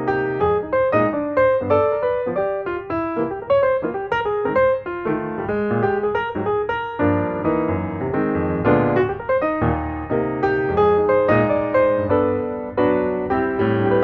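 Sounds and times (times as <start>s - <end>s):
lively piano music: 0.0s - 14.0s.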